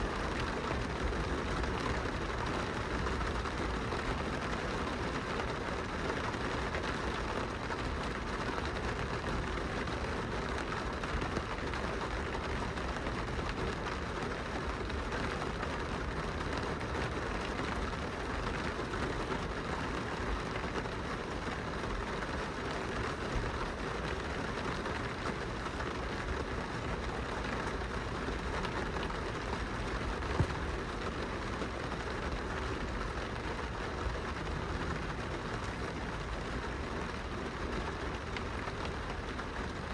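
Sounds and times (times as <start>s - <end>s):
rain pattering on car window: 0.0s - 39.9s.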